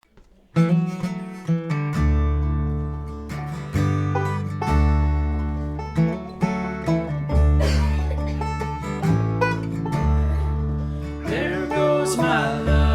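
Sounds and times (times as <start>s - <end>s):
banjo picking: 0.0s - 12.9s
acoustic guitar picking: 0.2s - 12.9s
double bass notes: 0.6s - 12.9s.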